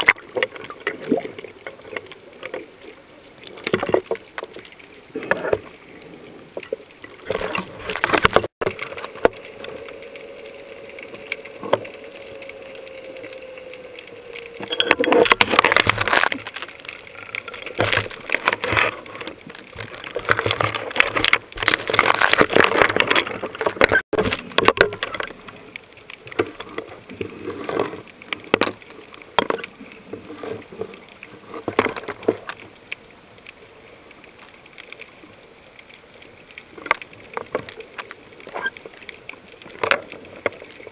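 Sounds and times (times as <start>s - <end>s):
rushing bubbling water: 0.0s - 40.9s
underwater crackling clicks: 0.0s - 40.9s.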